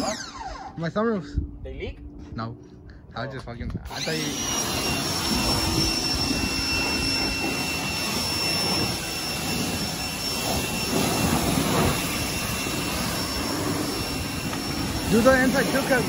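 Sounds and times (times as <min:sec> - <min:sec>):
pressure washer motor whine: 0:00.0 - 0:00.8, 0:03.9 - 0:16.0.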